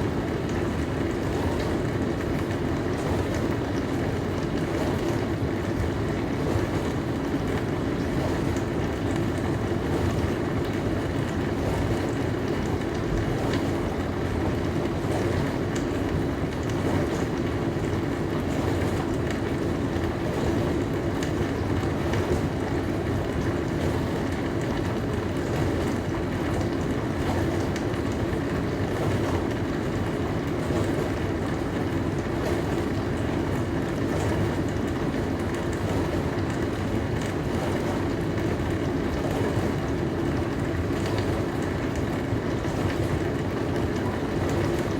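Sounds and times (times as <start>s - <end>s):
dishwasher low hum: 0.0s - 44.9s.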